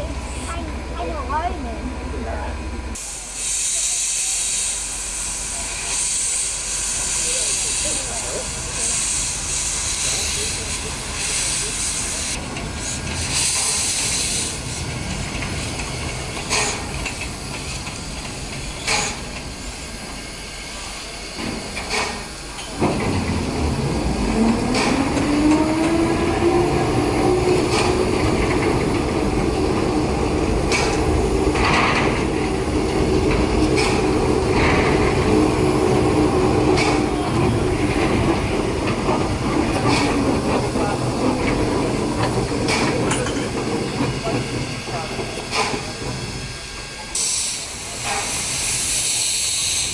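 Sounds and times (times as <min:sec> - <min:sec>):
steam hissing from locomotive: 0:02.9 - 0:49.9.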